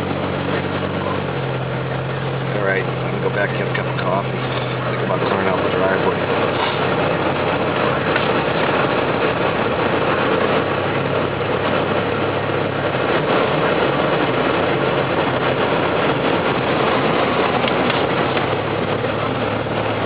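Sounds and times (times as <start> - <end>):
truck engine running: 0.0 - 20.0
tyre and road noise: 0.0 - 20.0.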